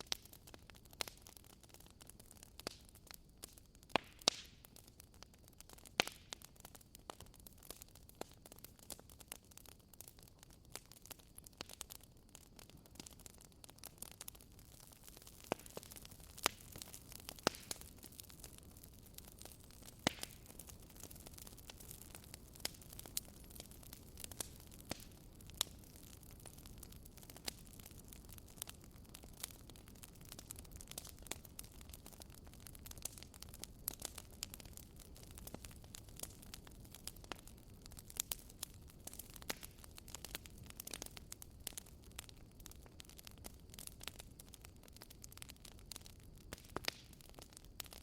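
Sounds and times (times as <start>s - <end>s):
fire pops: 0.0s - 48.0s
hiss of burning logs: 0.0s - 48.0s
wood fire crackling: 0.0s - 48.0s.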